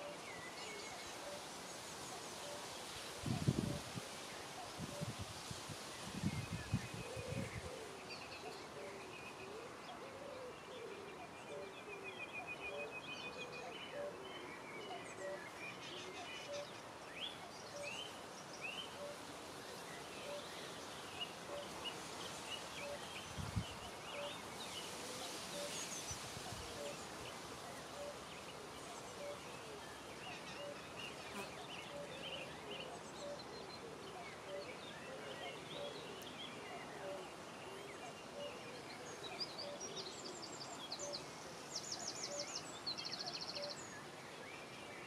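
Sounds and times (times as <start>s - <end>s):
faint background hiss: 0.0s - 45.0s.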